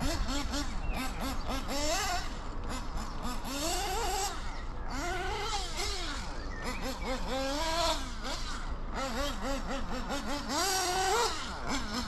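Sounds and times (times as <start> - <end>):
nitro rc car engine revving: 0.0 - 12.0.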